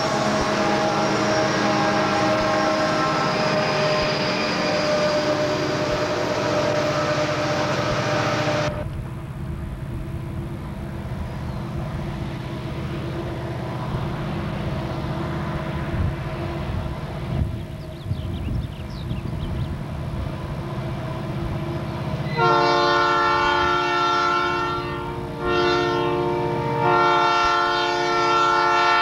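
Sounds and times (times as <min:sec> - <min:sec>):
diesel locomotive engine drone: 0:00.0 - 0:29.0
distant diesel train rumble: 0:00.0 - 0:29.0.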